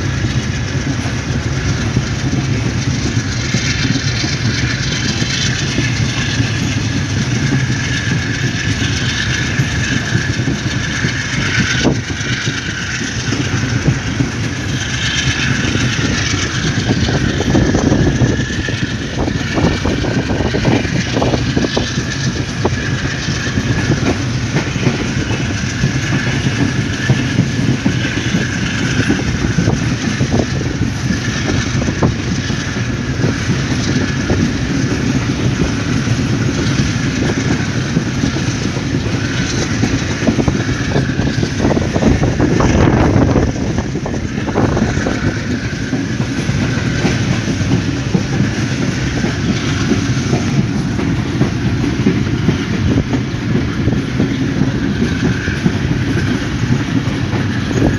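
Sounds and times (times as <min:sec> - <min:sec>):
clacks over rail joints: 0:00.0 - 0:57.9
train wheels rumbling on rail: 0:00.0 - 0:57.9.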